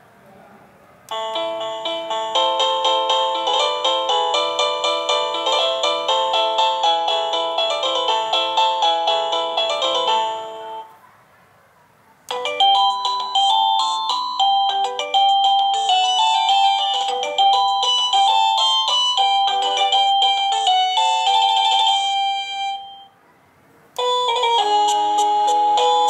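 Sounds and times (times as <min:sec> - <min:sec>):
doorbell chime melody: 0:01.1 - 0:10.9, 0:12.3 - 0:23.2, 0:24.0 - 0:26.0.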